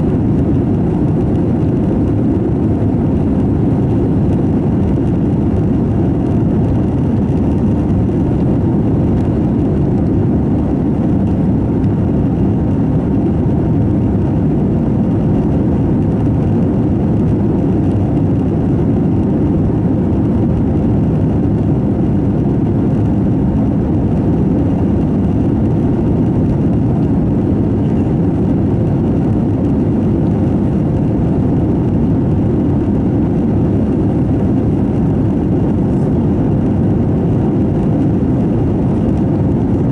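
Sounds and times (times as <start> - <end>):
aircraft engine noise: 0.0 - 39.9.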